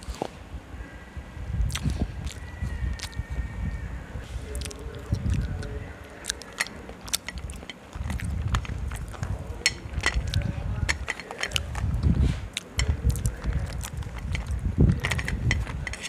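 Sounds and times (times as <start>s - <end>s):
low chewing rumble: 0.0s - 16.0s
crunching and snapping pencils: 1.6s - 3.2s, 4.5s - 16.0s.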